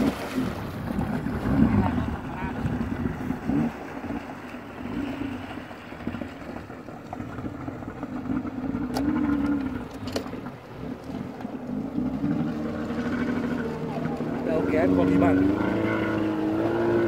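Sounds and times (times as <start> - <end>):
jet ski engine running: 0.0 - 17.0
water noise: 0.0 - 17.0.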